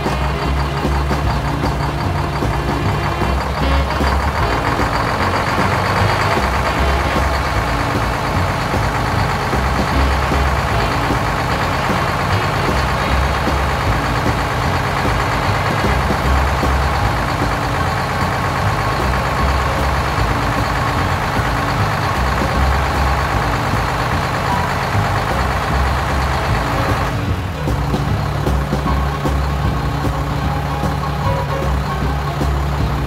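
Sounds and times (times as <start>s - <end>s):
heavy truck engine running: 0.0s - 33.0s.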